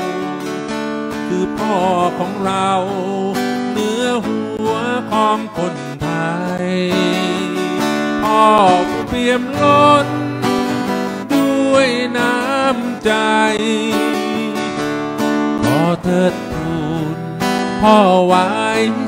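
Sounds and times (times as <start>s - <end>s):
man singing: 0.0s - 0.4s, 1.2s - 19.0s
strummed acoustic guitar: 0.0s - 19.0s.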